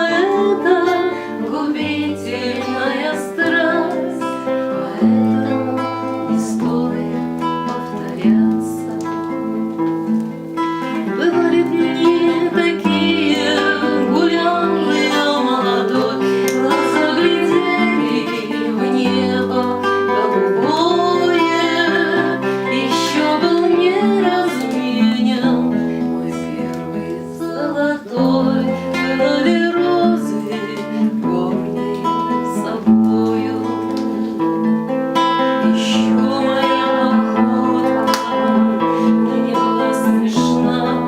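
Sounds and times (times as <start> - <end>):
acoustic guitar strummed and plucked: 0.0 - 41.0
woman singing: 0.0 - 41.0.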